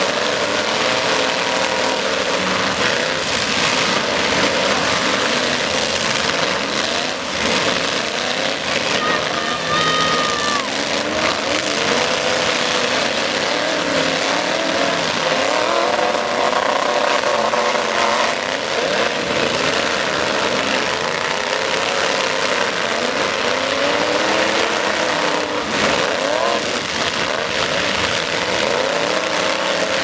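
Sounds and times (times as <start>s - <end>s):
truck engines revving: 0.0s - 30.0s.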